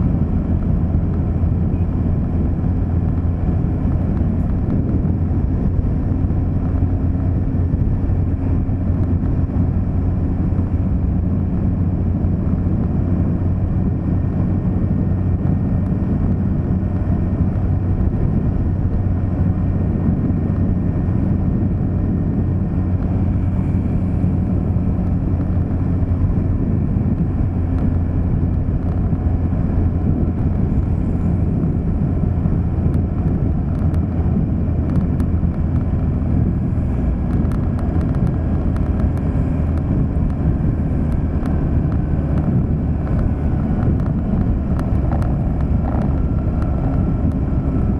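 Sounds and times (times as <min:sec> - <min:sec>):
vehicle driving along road: 0:00.0 - 0:47.9.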